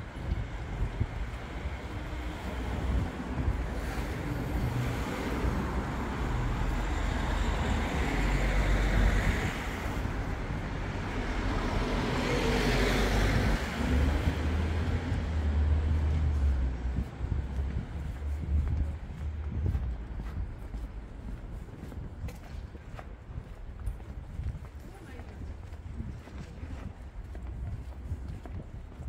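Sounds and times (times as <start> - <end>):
cars passing: 0.0 - 24.4
steady road noise: 0.0 - 29.0.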